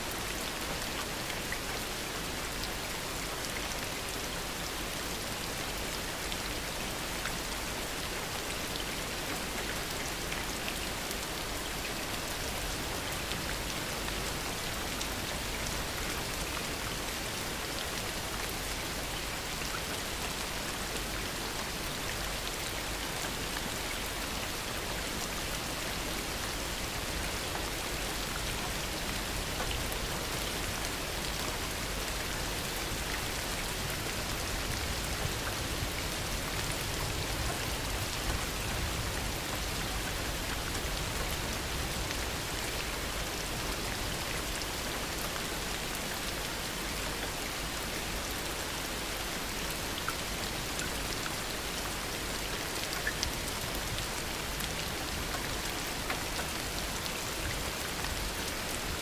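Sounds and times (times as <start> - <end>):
heavy rain falling: 0.1 - 59.0.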